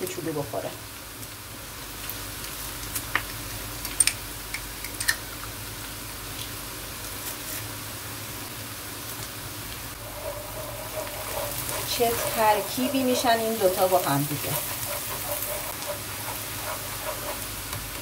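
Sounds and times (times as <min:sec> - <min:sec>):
onion and garlic sizzling: 0:00.0 - 0:18.0.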